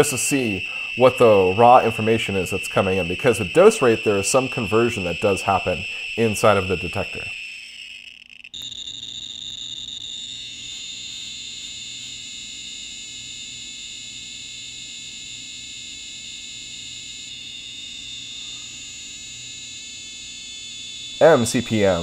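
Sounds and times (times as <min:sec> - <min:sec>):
high-pitched electronic tone: 0:00.0 - 0:22.0.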